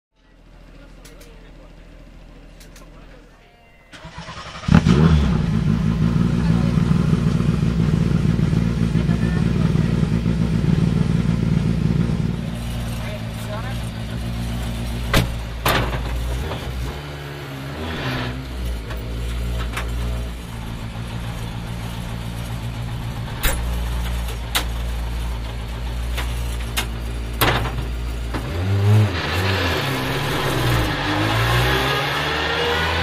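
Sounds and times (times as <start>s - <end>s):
rally car engine idling: 0.2s - 31.4s.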